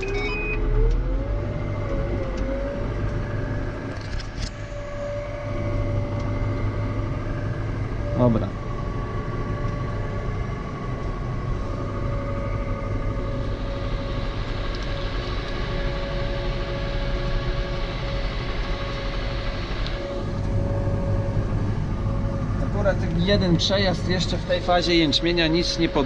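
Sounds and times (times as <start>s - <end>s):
steady mechanical whine: 0.0s - 26.0s
tractor engine drone: 0.0s - 26.0s.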